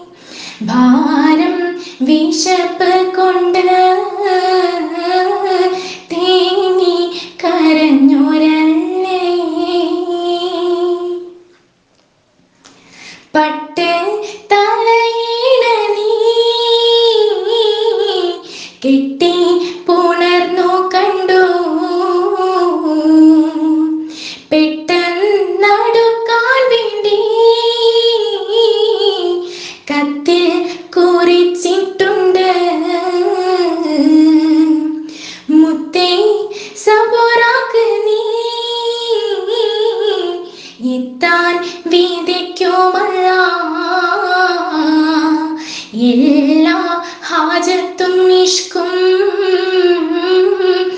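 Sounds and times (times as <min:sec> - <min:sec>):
woman singing: 0:00.0 - 0:11.5, 0:13.3 - 0:50.9.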